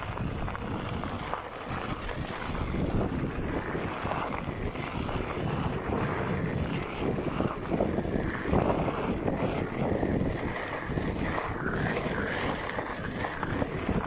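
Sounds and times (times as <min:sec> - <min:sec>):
tyre rolling on dirt: 0:00.0 - 0:14.0
wind rushing over microphone: 0:00.0 - 0:14.0.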